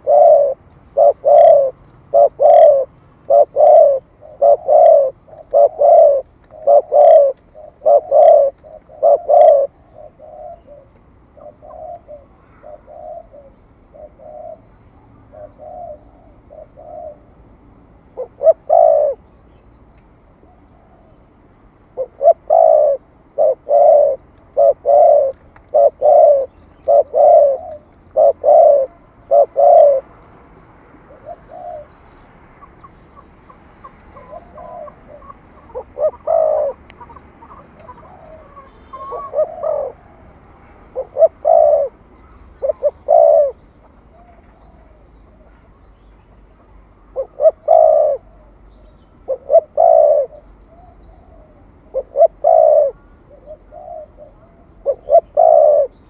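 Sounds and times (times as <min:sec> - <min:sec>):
dove cooing: 0:00.0 - 0:17.3, 0:18.1 - 0:19.4, 0:21.9 - 0:30.1, 0:31.0 - 0:45.8, 0:46.6 - 0:48.6, 0:49.2 - 0:56.0.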